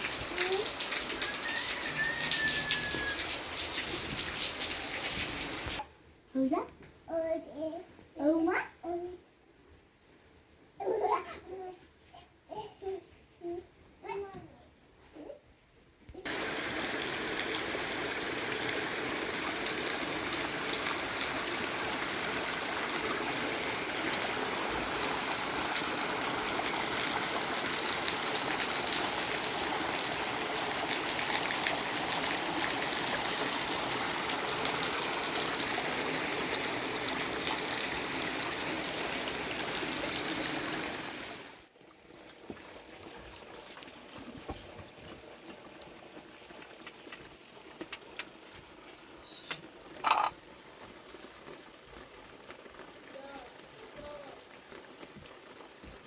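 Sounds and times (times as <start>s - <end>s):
rush of water: 0.0s - 5.8s, 16.3s - 56.0s.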